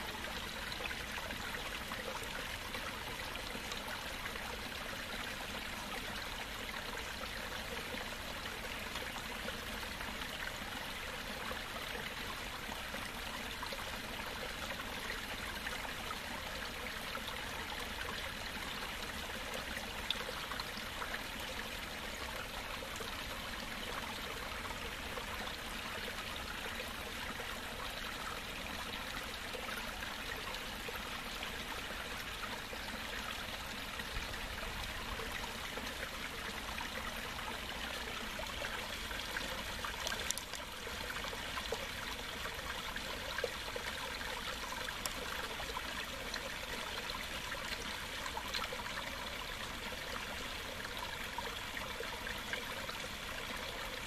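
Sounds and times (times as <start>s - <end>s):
water trickling into pond: 0.0s - 54.0s.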